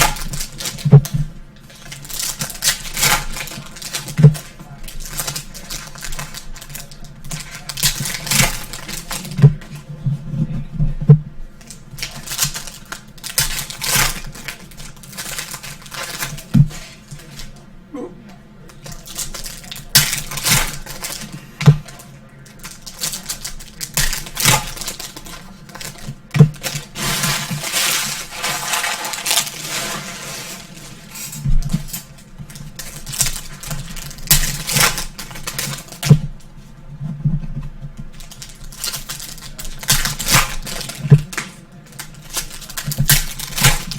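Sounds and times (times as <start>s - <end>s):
foil pack wrappers tearing: 0.0s - 9.8s, 11.6s - 17.6s, 18.7s - 36.2s, 38.1s - 43.9s.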